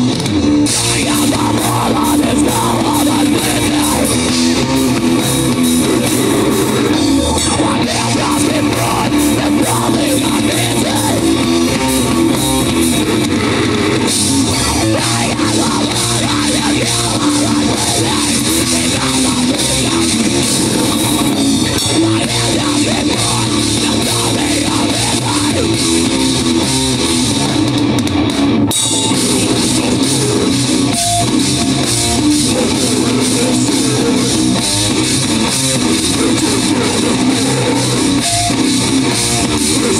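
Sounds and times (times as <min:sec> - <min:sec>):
distorted electric guitars: 0:00.0 - 0:39.9
driving drum kit: 0:00.0 - 0:39.9.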